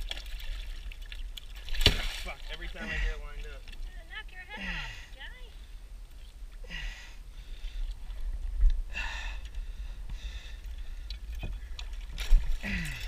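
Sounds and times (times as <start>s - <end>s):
steady low rumble: 2.0s - 13.0s.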